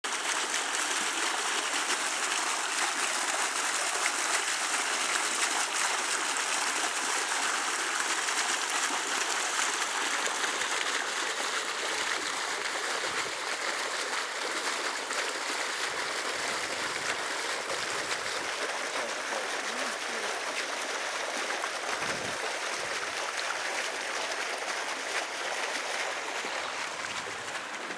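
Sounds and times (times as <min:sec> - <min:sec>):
water gushing into a pond: 0:00.0 - 0:27.9.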